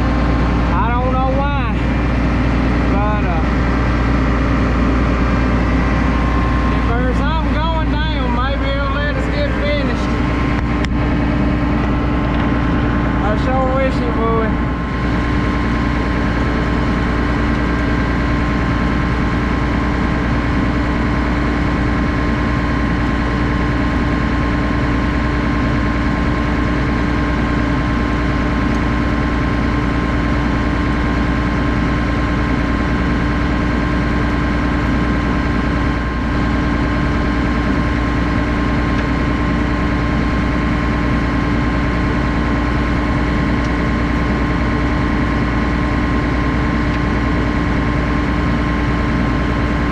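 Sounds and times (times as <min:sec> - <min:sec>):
combine harvester drone: 0:00.0 - 0:49.9
steady machine whine: 0:00.0 - 0:49.9.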